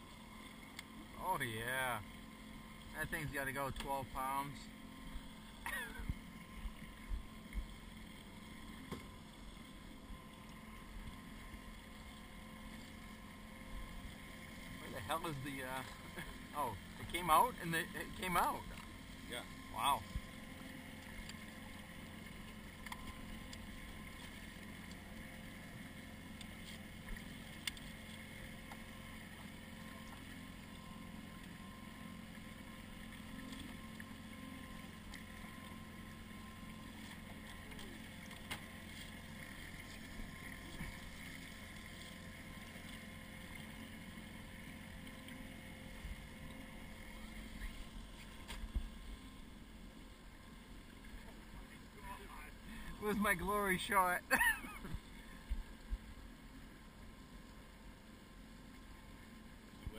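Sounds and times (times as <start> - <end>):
outboard motor droning: 0.0 - 59.9
water and wind rushing: 0.0 - 59.9.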